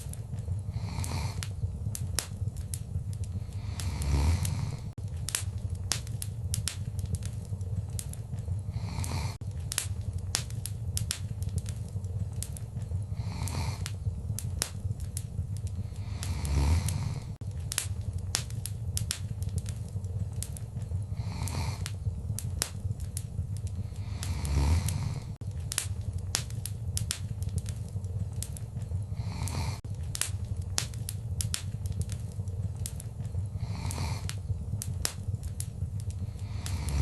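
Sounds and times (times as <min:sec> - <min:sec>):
flames whooshing: 0:00.0 - 0:37.0
low rumble of flame: 0:00.0 - 0:37.0
soft hiss of fire: 0:00.0 - 0:37.0
wood fire crackling and popping: 0:00.0 - 0:37.0.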